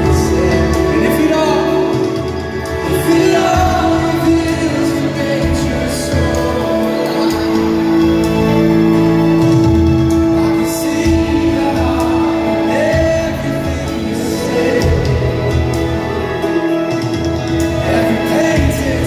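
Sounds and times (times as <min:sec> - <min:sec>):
live worship band: 0:00.0 - 0:19.0
person singing: 0:00.0 - 0:19.0.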